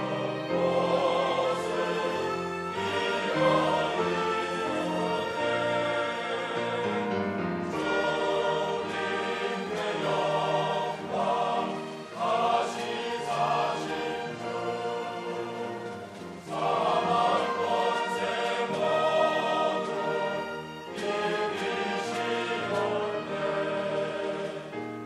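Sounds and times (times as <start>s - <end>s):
church choir singing: 0.0s - 25.0s
instrumental accompaniment: 0.0s - 25.0s.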